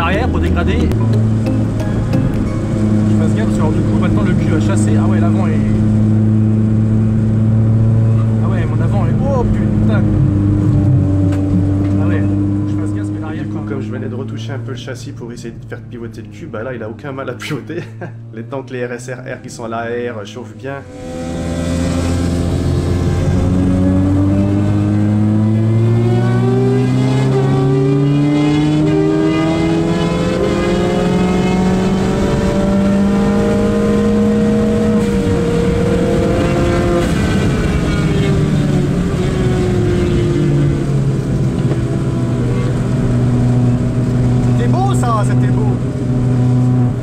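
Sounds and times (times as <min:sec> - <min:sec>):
car engine under load: 0:00.0 - 0:47.0.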